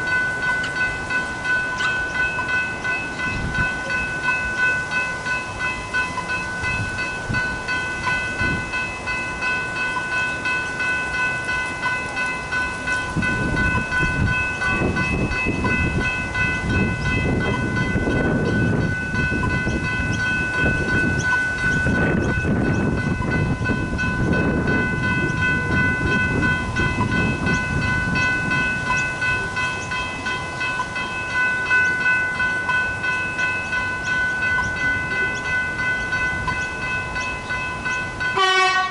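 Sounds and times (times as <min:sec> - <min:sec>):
level crossing bells ringing: 0:00.0 - 0:38.9
train rumbling past: 0:00.0 - 0:38.9.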